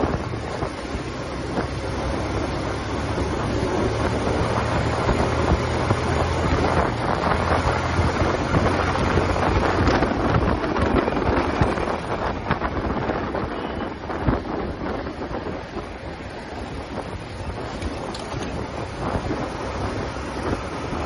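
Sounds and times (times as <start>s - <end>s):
motorcycle engine running: 0.0s - 21.0s
wind noise on microphone: 0.0s - 21.0s.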